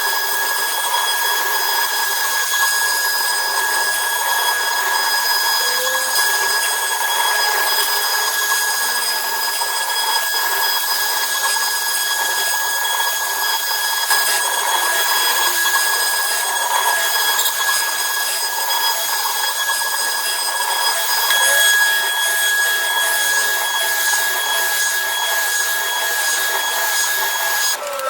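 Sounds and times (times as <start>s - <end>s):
cnc router spindle whine: 0.0s - 28.0s.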